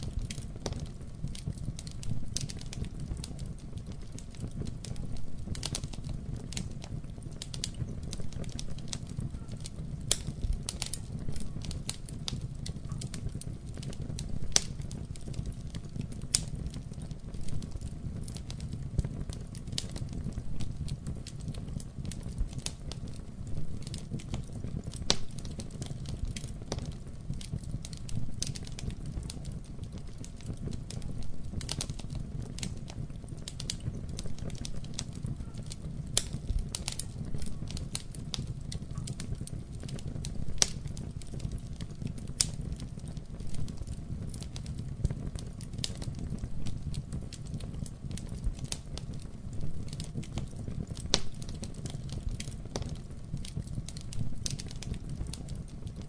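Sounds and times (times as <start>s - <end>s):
fire crackles and pops: 0.0s - 56.0s
low rumble of flames: 0.0s - 56.0s.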